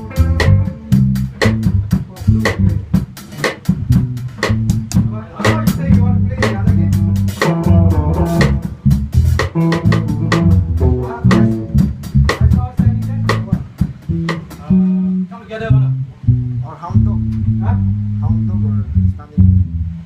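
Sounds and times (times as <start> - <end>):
drum kit: 0.0 - 18.6
bass line: 0.0 - 20.0
guitar: 0.0 - 20.0.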